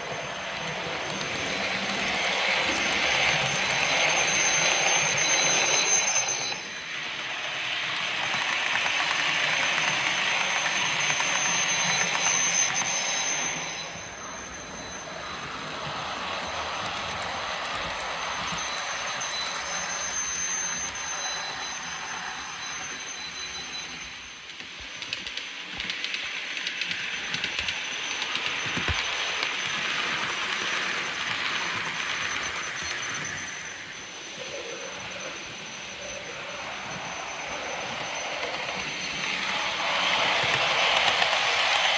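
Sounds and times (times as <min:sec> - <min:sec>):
high-pitched motor whine: 0:00.0 - 0:41.9
model train running on track: 0:00.0 - 0:41.9.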